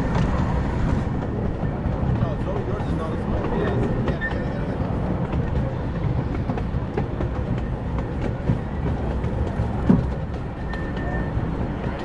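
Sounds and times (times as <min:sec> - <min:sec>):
train wheels rumbling on track: 0:00.0 - 0:12.0
wheels clicking over rail joints: 0:00.0 - 0:12.0.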